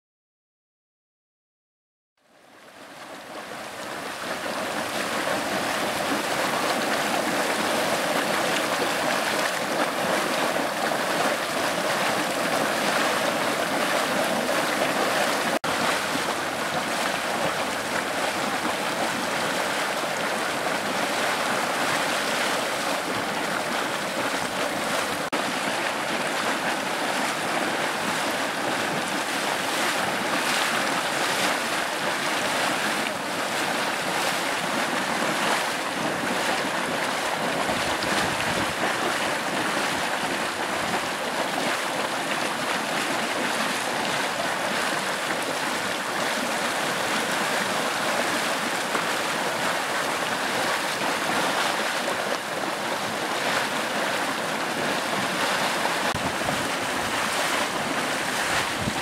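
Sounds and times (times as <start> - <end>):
mud boiling and churning: 2.2 - 59.0
steam rushing from vent: 3.3 - 59.0.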